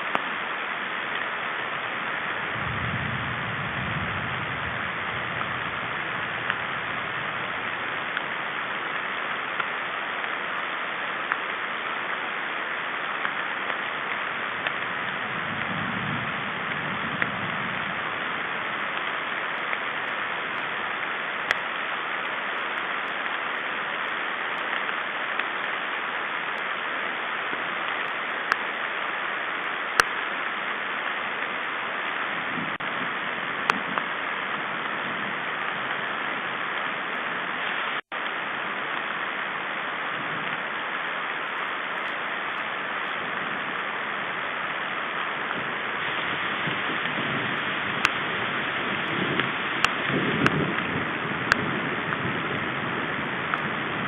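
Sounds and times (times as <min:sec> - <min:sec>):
raindrop ticks: 0:00.0 - 0:01.9, 0:04.2 - 0:39.6, 0:40.3 - 0:44.0, 0:44.6 - 0:54.0
steady rain hissing: 0:00.0 - 0:54.0.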